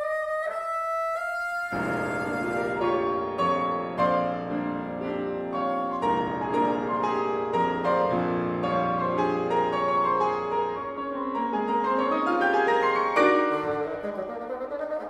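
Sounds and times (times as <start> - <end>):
grand piano chords: 1.7 - 15.0.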